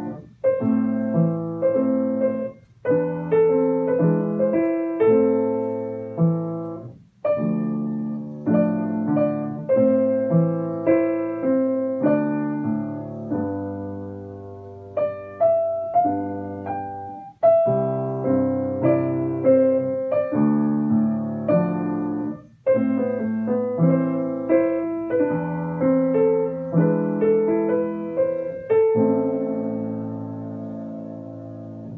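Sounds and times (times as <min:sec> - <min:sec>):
grand piano played four hands: 0:00.0 - 0:31.9.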